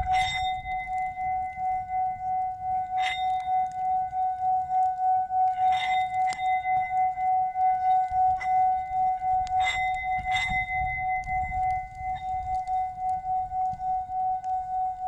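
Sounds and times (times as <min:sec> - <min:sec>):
fire crackles: 0:00.0 - 0:15.0
singing bowl ringing: 0:00.0 - 0:15.0.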